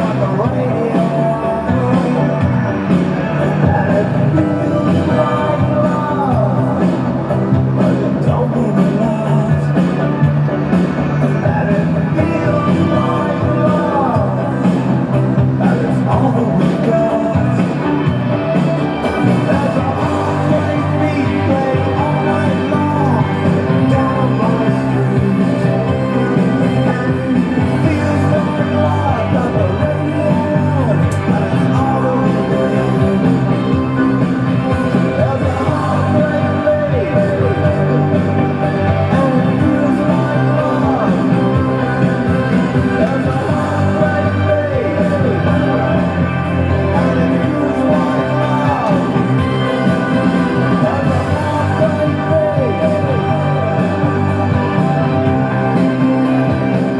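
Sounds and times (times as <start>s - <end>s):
rock song with singing: 0.0s - 56.9s.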